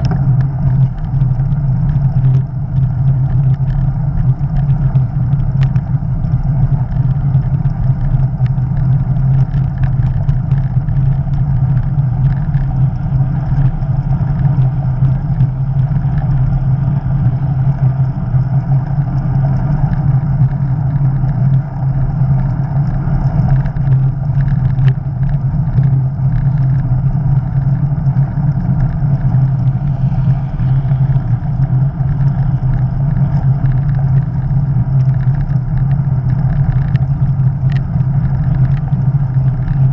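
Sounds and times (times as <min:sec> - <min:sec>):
bicycle tyre noise on road: 0:00.0 - 0:39.9
wind rushing on microphone: 0:00.0 - 0:39.9.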